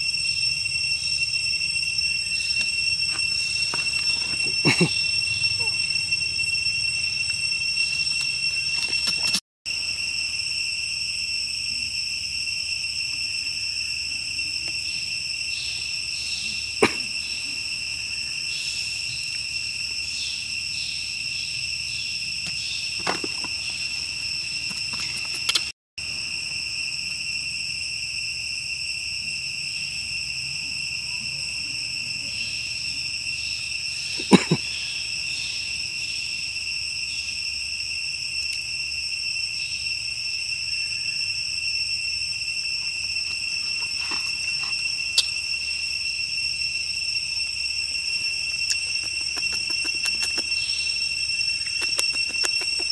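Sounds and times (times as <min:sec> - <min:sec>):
high-pitched insect drone: 0:00.0 - 0:52.9
pulsing insect layer: 0:00.0 - 0:52.9.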